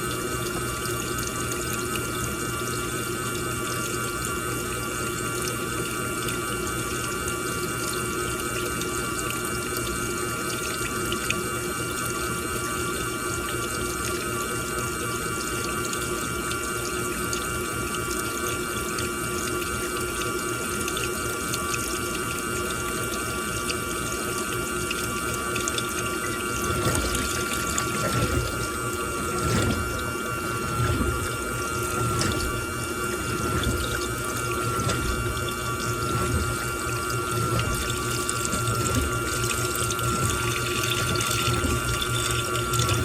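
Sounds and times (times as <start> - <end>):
washing machine whine: 0.0 - 43.0
water sloshing in washing machine: 0.0 - 43.0.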